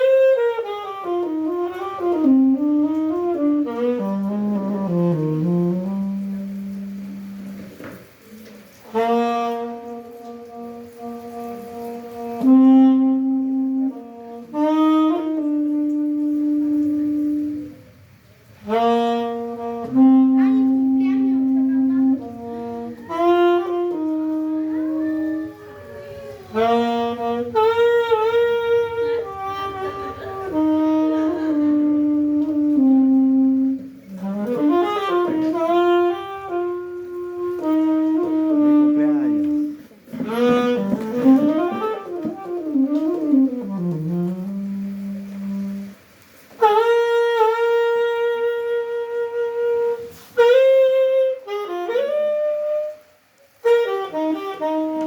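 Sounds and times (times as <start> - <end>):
solo saxophone melody: 0.0 - 55.0.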